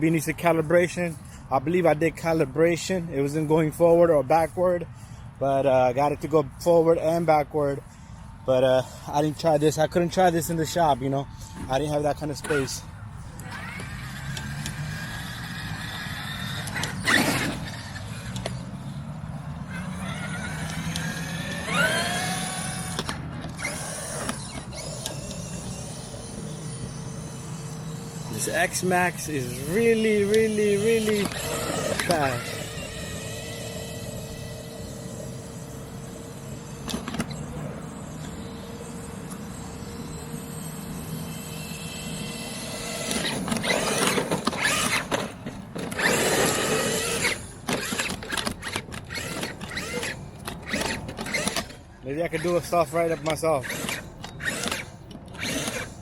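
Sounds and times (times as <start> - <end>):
electric motor whining: 10.4 - 56.0.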